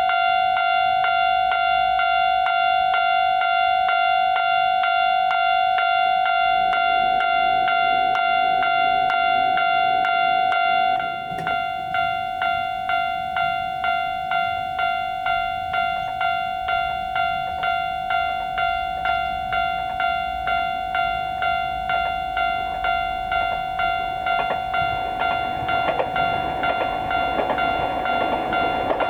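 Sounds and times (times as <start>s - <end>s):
railroad crossing bell ringing: 0.0s - 29.0s.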